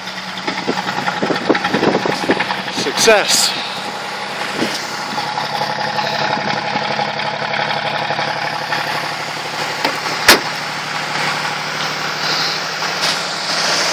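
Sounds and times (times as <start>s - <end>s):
car engine idling: 0.0s - 13.9s.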